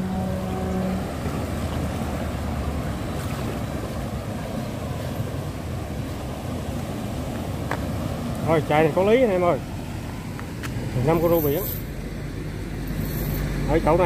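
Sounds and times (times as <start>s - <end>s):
turbulent water rushing: 0.0s - 14.0s.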